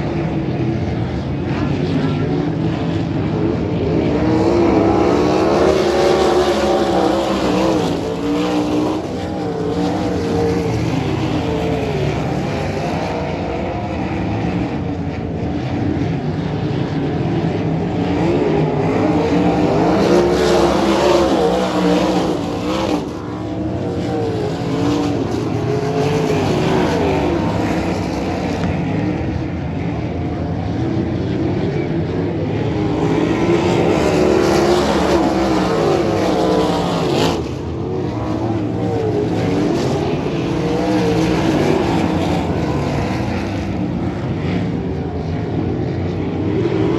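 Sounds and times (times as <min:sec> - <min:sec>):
race car engines: 0:00.0 - 0:46.9.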